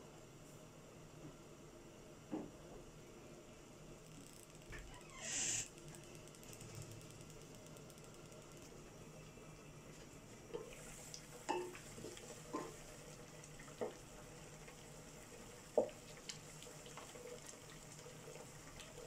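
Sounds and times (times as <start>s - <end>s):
faint steady sizzle: 0.0s - 19.0s.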